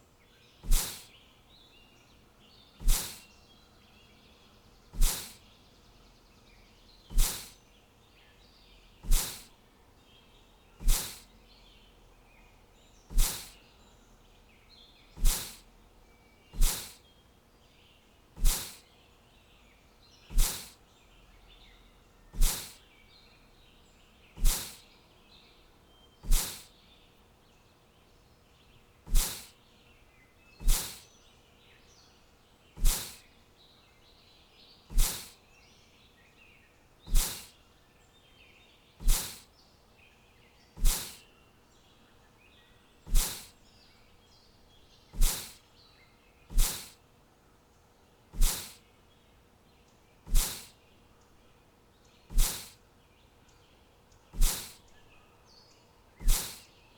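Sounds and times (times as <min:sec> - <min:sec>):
faint high bird chirping: 0:00.0 - 0:47.0, 0:47.7 - 0:56.9.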